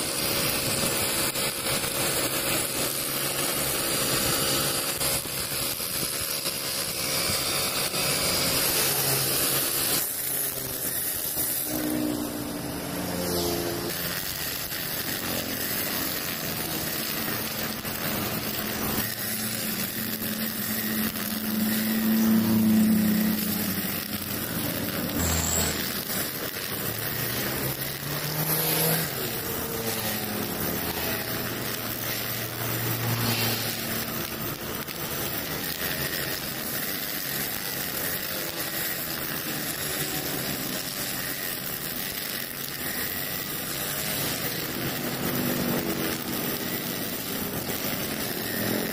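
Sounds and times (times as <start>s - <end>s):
brush cutter engine running: 0.0s - 48.9s
trimmer line cutting grass: 0.0s - 48.9s.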